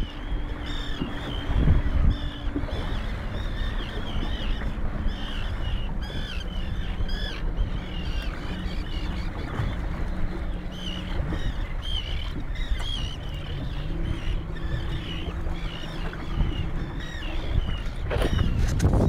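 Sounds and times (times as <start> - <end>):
seabirds calling: 0.0 - 18.9
motorboat rumbling: 0.0 - 19.0
wind: 0.0 - 19.0.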